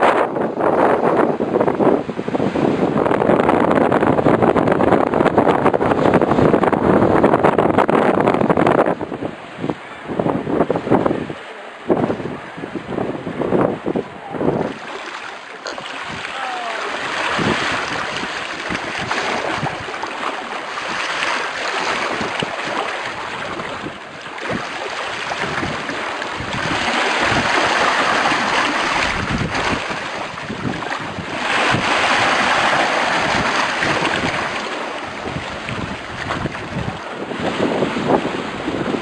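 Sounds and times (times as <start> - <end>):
sea waves breaking: 0.0 - 39.0
wind buffeting microphone: 0.0 - 39.0.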